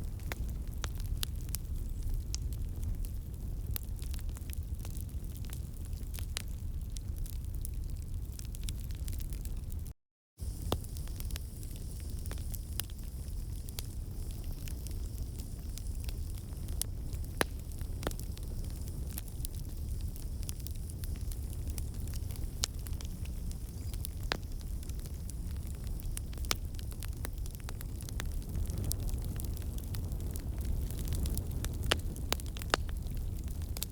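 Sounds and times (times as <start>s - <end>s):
fire crackling and popping: 0.0s - 33.9s
low rumble of flames: 0.0s - 33.9s.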